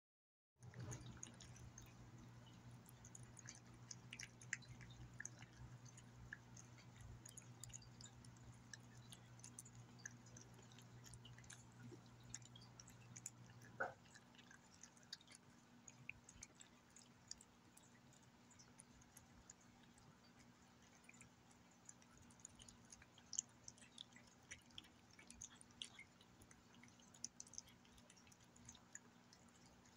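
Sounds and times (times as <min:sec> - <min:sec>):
cat chewing wet food: 0:00.6 - 0:29.9
low background hum: 0:00.6 - 0:29.9.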